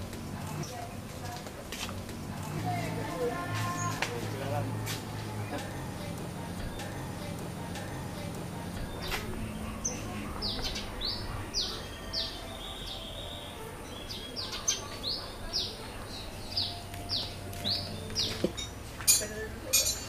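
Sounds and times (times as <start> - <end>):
bird chirping: 2.1 - 18.8.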